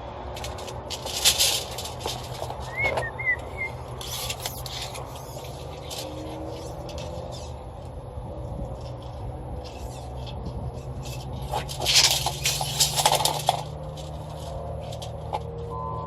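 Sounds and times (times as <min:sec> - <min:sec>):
copper tubing scraping and clattering: 0:00.3 - 0:15.7.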